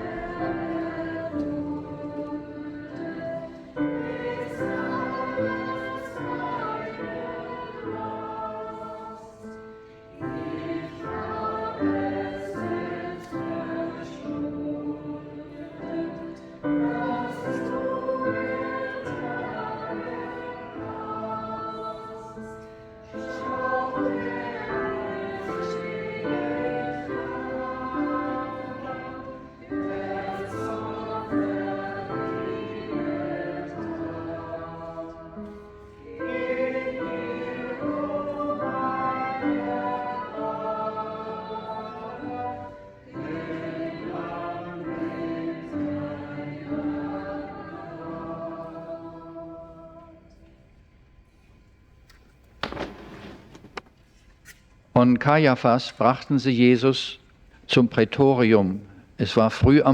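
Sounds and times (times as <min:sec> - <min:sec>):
church choir singing: 0:00.0 - 0:53.9, 0:55.0 - 0:59.9.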